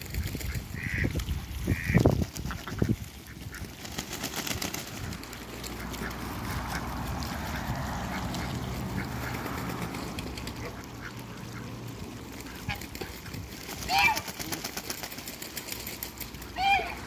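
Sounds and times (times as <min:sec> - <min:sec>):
bills clicking in water: 0:00.0 - 0:16.6
ducks splashing in water: 0:00.0 - 0:17.0
duck calls: 0:00.2 - 0:03.8, 0:04.7 - 0:15.0, 0:16.3 - 0:17.0.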